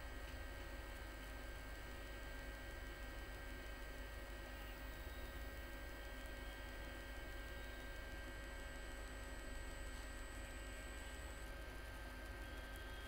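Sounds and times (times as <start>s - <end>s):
faint electrical hum: 0.0s - 13.0s
thin steady whine tones: 0.0s - 13.0s.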